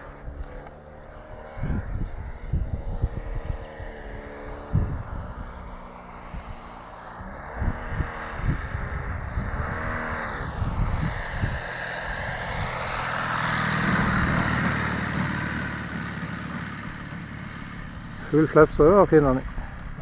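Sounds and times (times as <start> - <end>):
model plane propeller engine: 0.0 - 20.0
wind buffeting microphone: 1.1 - 20.0.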